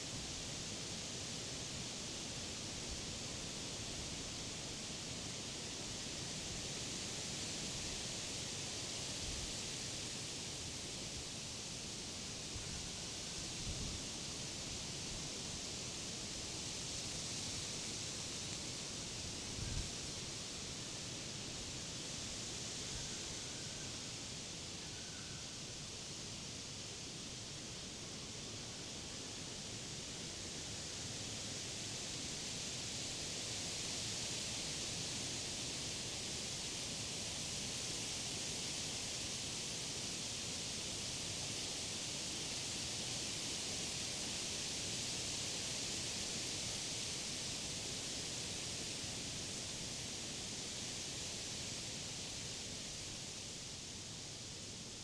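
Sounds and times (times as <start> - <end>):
wind rustling through leaves: 0.1 - 55.0.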